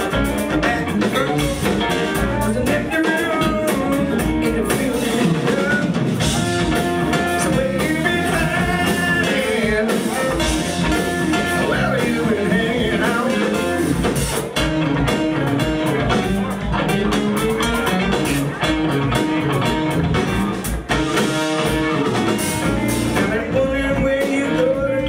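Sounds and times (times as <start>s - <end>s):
drum kit: 0.0s - 25.0s
electric bass: 0.0s - 25.0s
guitar: 0.0s - 25.0s
keyboard piano: 0.0s - 25.0s.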